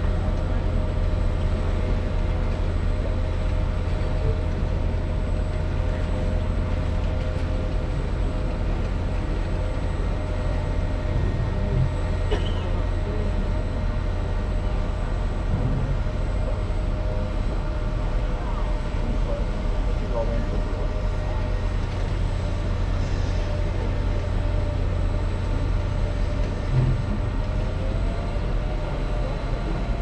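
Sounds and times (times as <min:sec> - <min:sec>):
ship engines rumbling: 0:00.0 - 0:30.0.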